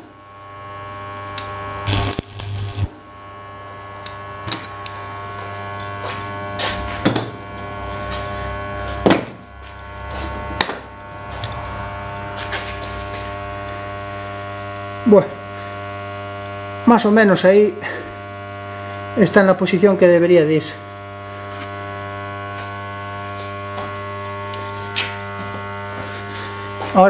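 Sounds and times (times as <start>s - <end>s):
welding arc bursts and clicks: 0.0s - 26.8s
welder humming: 0.0s - 27.0s.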